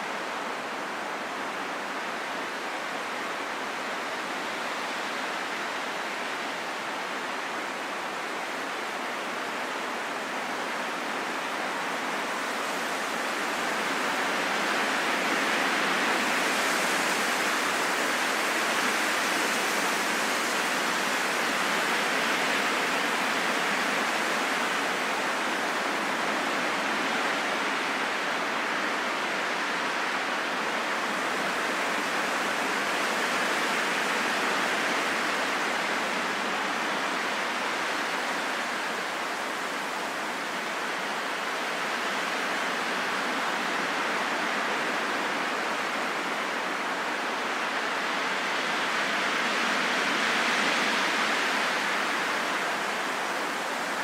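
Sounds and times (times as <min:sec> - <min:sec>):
steady rushing wind: 0:00.0 - 0:54.0.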